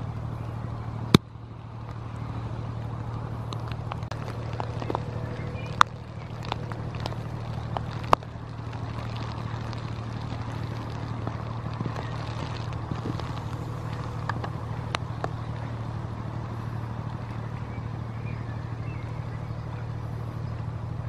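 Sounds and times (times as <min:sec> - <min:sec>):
ship diesel engine drone: 0:00.0 - 0:21.0.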